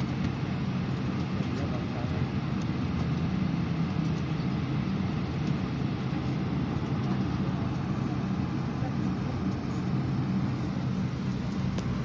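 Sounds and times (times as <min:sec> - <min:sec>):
aircraft cabin hum: 0:00.0 - 0:12.0.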